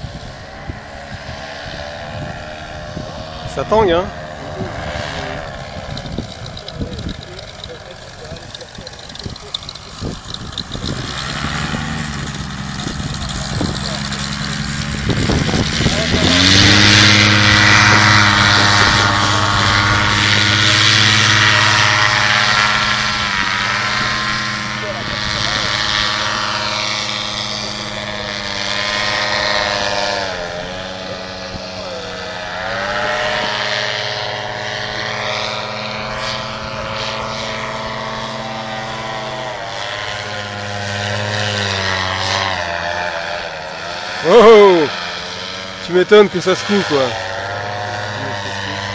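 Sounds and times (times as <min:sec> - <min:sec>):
paramotor engine and propeller: 0:00.0 - 0:48.9.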